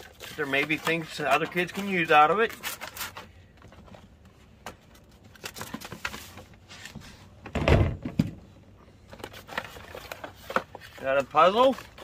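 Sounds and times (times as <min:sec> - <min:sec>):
cardboard boxes rustling: 0:00.0 - 0:08.1, 0:09.0 - 0:12.0.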